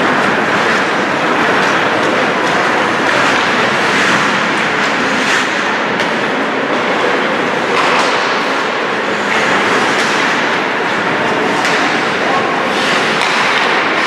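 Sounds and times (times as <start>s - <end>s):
hockey stick and puck clacks: 0.0s - 14.0s
skates scraping on ice: 0.0s - 14.0s.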